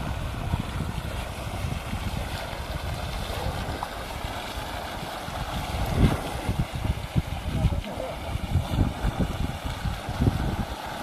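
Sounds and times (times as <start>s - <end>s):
water gushing from pipe: 0.0s - 11.0s
wind rumble on microphone: 0.0s - 11.0s.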